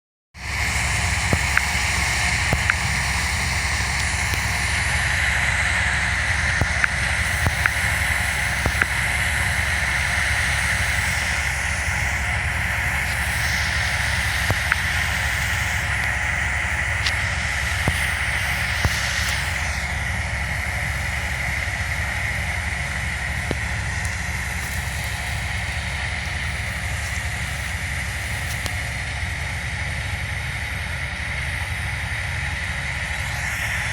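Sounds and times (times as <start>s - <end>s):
harvesting machine running: 0.4s - 33.9s
sharp mechanical ticks: 0.6s - 29.2s.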